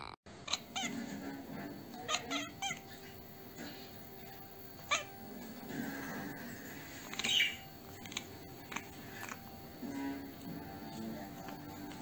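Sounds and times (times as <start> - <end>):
cat chattering: 0.5 - 12.0.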